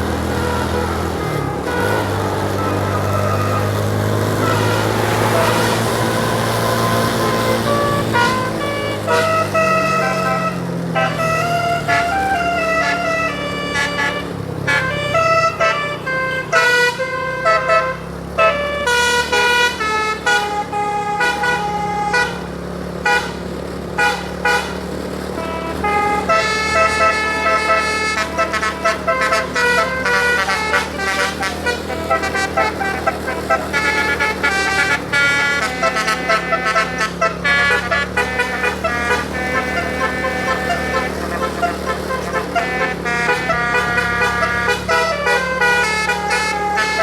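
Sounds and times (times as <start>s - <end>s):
low engine drone: 0.0s - 47.0s
musical air horn tune: 0.0s - 47.0s.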